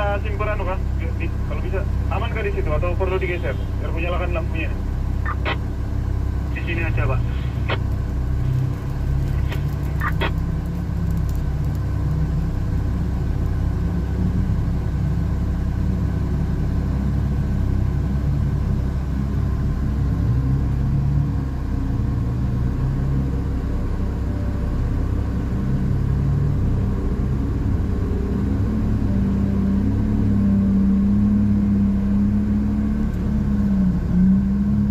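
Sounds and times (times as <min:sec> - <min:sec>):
engine rumbling: 0:00.0 - 0:34.9
higher steady hum: 0:00.0 - 0:34.9.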